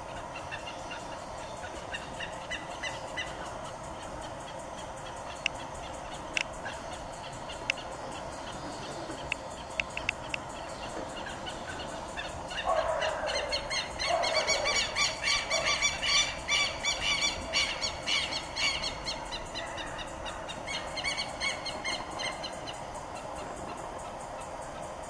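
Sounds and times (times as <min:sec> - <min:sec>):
lapwings calling: 0:00.0 - 0:24.9.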